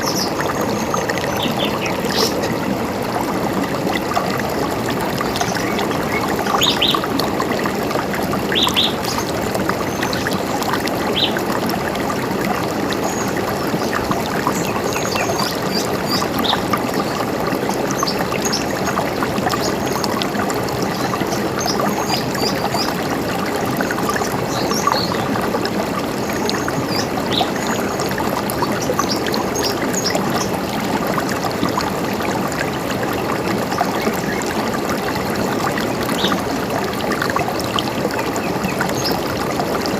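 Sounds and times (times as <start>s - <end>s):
river running: 0.0s - 39.9s.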